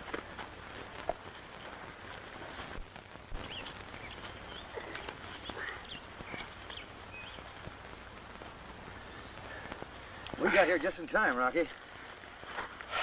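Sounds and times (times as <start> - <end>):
film soundtrack hiss: 0.0 - 13.0
birds chirping: 0.2 - 13.0.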